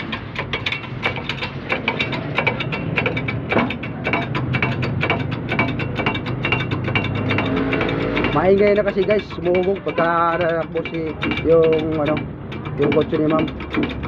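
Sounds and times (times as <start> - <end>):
metallic clicks and clanks: 0.0 - 14.0.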